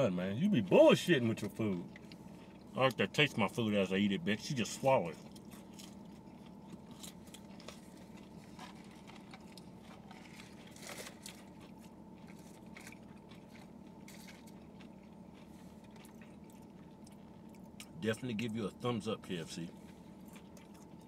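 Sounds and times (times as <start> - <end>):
chewing and crunching: 0.0 - 21.0
low hum: 0.0 - 21.0.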